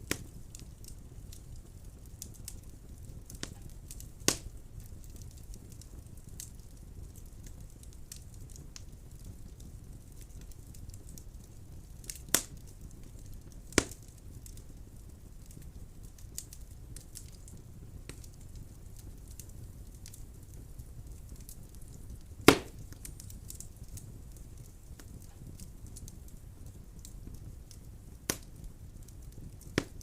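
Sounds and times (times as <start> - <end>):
burning logs popping: 0.0 - 30.0
faint crackles: 0.0 - 30.0
fire rumbling: 0.0 - 30.0.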